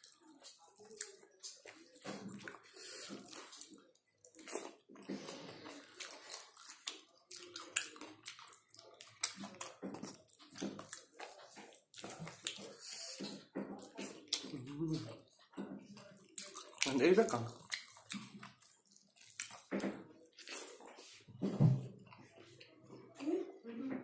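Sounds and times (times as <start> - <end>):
wet chewing and lip smacking: 0.0 - 21.2.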